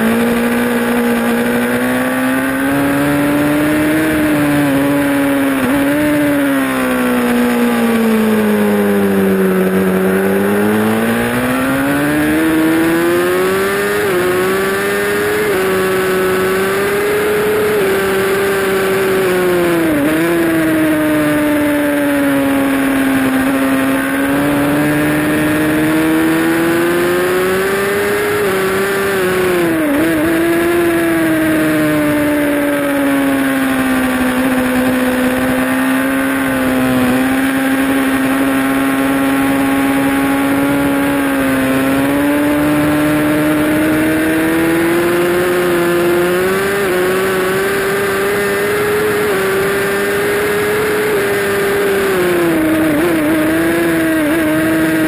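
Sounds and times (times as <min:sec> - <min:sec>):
motorcycle engine running hard: 0:00.0 - 0:55.0.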